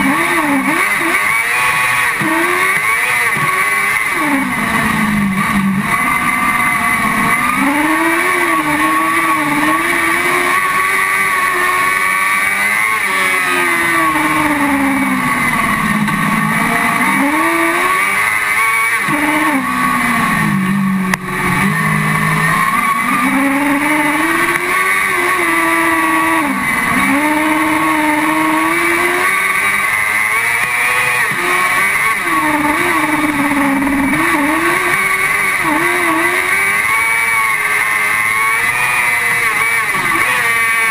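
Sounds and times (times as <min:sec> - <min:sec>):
buggy engine revving: 0:00.0 - 0:40.9.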